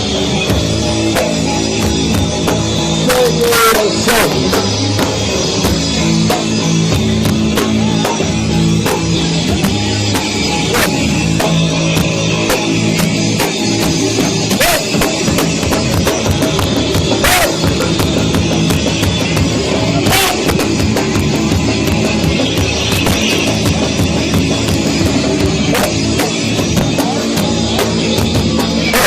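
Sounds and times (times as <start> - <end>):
distorted live heavy rock band: 0.0 - 29.0
drums hitting: 0.0 - 29.0.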